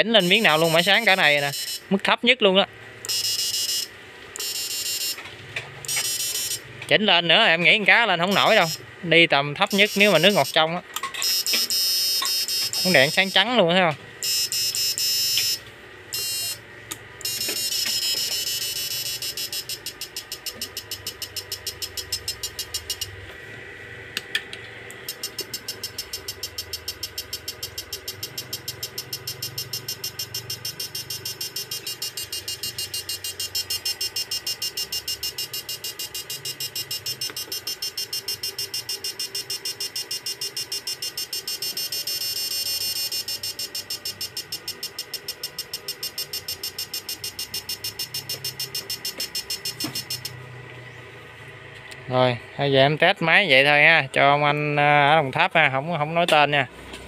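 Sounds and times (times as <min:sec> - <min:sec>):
pulsing high buzzing whine: 0:00.0 - 0:56.7.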